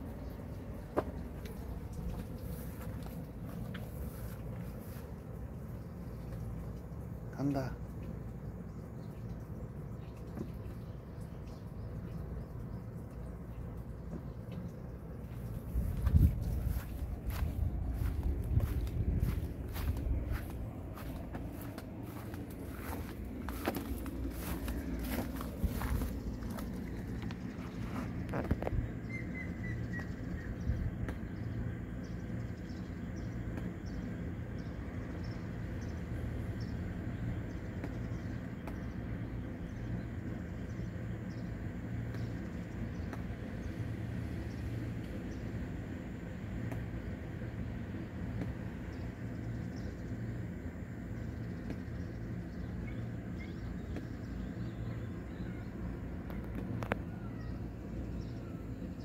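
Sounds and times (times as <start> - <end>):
low outdoor hum: 0.0 - 59.0
steady low rumble: 0.0 - 59.0.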